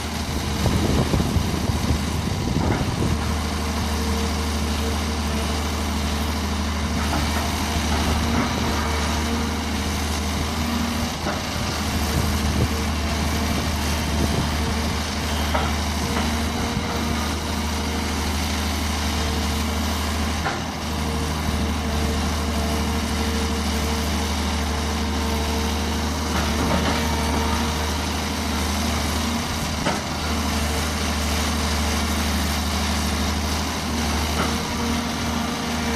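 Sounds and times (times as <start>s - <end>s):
diesel engine droning: 0.0s - 35.9s.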